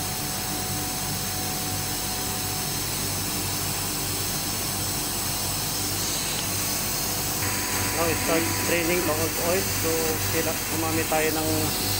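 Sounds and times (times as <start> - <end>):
air compressor running: 0.0 - 11.9.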